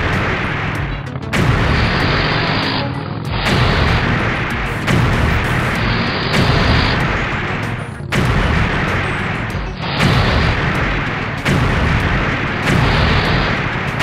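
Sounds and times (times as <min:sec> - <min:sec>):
background music: 0:00.0 - 0:14.0
booming swells: 0:00.0 - 0:14.0.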